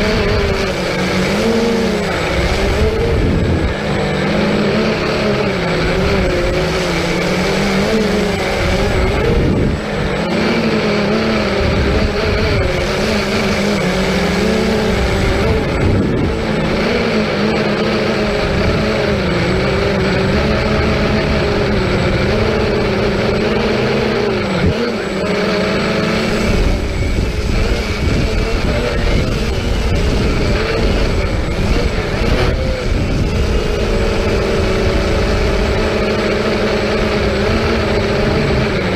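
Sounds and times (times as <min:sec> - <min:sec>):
drone propellers whining: 0:00.0 - 0:38.9
wind rumble on microphone: 0:00.0 - 0:38.9.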